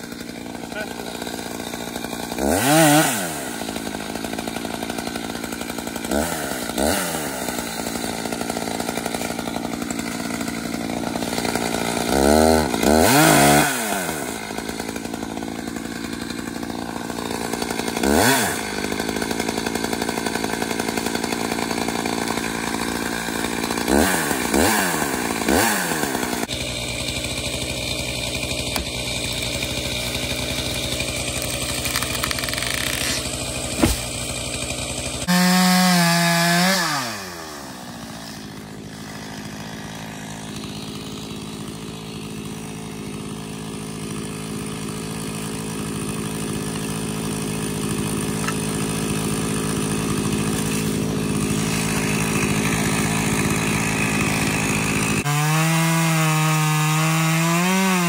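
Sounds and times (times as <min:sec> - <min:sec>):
chainsaw cutting and revving: 0:00.0 - 0:58.0.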